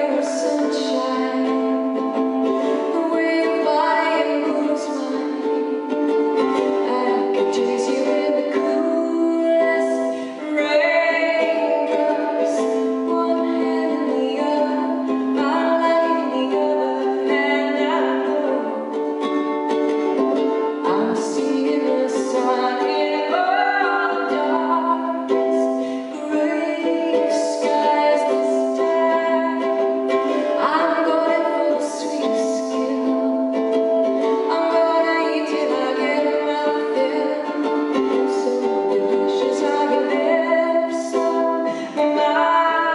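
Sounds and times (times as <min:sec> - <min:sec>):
woman singing love song: 0:00.0 - 0:19.2, 0:20.4 - 0:42.9
strummed ukulele: 0:00.0 - 0:42.9.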